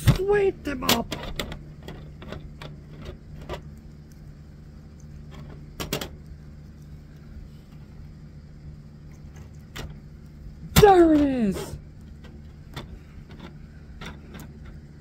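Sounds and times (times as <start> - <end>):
room fan humming: 0.0 - 15.0.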